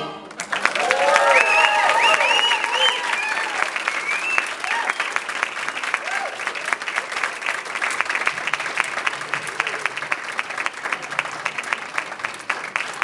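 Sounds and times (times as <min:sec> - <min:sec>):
audience applauding: 0:00.3 - 0:13.0.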